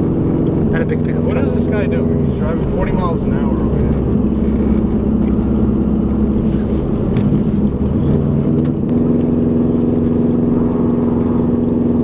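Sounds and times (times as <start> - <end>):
car engine drone: 0.0 - 12.0
road noise inside car: 0.0 - 12.0.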